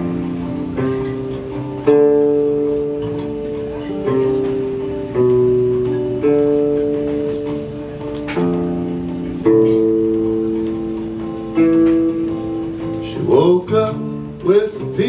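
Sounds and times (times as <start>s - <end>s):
clean electric guitar chords: 0.0s - 15.0s.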